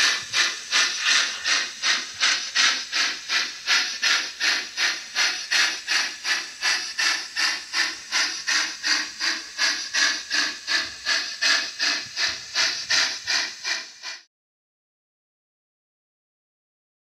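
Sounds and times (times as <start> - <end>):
model steam locomotive chuffing: 0.0 - 14.3.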